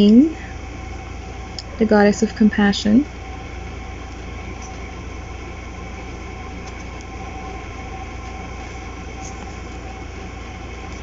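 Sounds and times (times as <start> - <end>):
machinery hum with high tone: 0.0 - 11.0.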